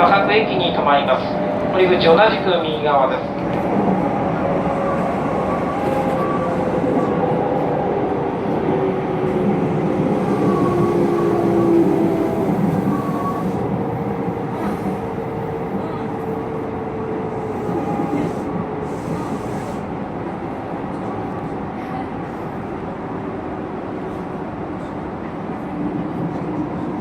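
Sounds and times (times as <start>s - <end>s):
electric train rail rumble: 0.0s - 27.0s.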